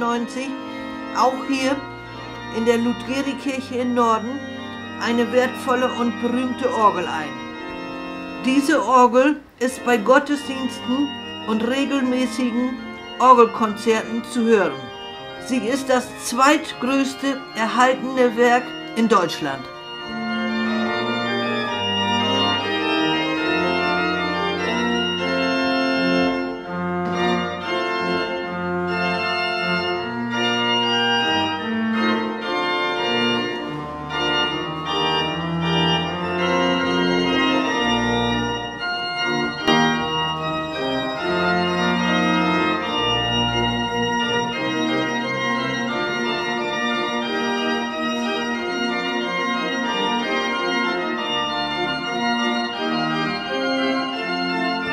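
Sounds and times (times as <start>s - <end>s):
pipe organ playing: 0.0s - 54.9s.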